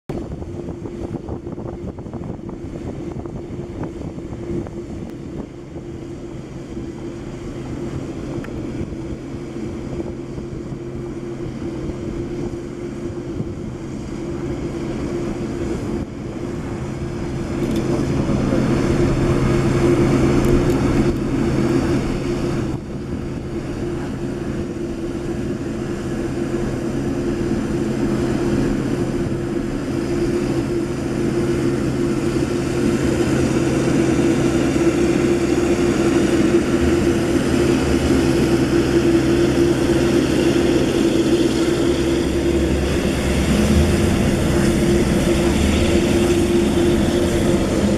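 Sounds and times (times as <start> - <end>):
jet engines whining and rumbling: 0.0 - 47.9.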